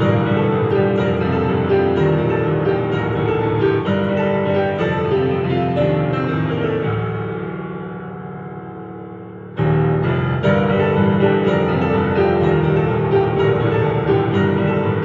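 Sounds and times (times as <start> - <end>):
piano chords and melody: 0.0 - 15.0.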